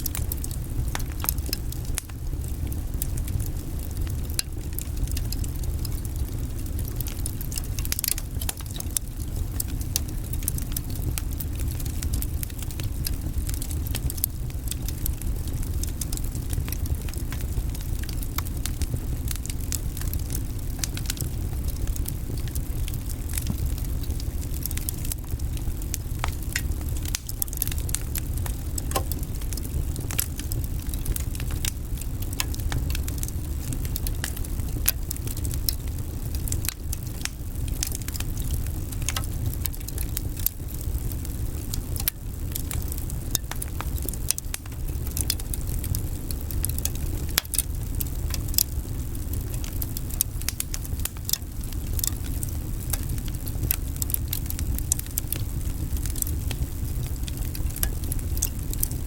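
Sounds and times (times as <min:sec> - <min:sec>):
low fire rumble: 0:00.0 - 0:59.0
wood fire crackling and popping: 0:00.0 - 0:59.0.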